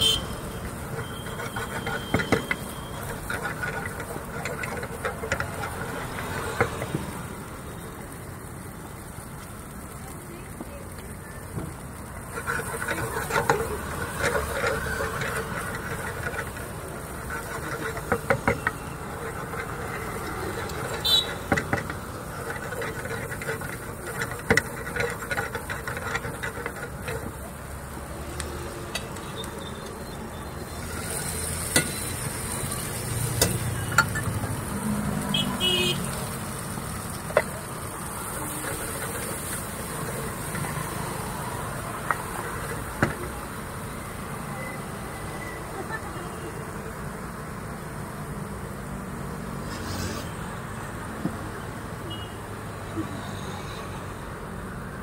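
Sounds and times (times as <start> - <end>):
spatula stirring in a frying pan: 0.0 - 8.7, 10.6 - 46.1
light sizzle: 0.0 - 53.0.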